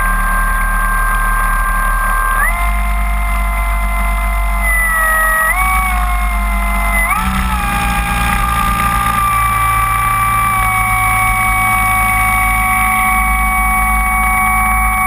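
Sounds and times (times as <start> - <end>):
model plane motor and propeller whine: 0.1 - 15.0.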